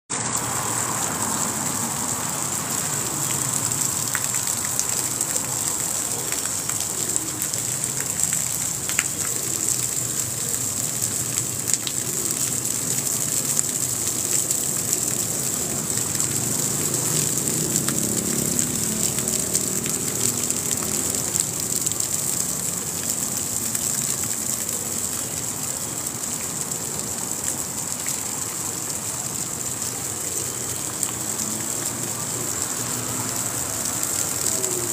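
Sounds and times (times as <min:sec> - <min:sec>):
fountain splashing into basin: 0:00.1 - 0:34.9.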